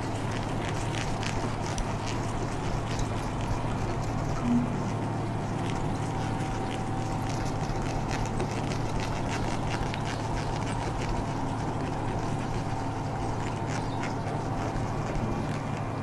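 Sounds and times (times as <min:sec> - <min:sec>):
duster rubbing on chalkboard: 0:00.0 - 0:16.0
steady background hum: 0:00.0 - 0:16.0.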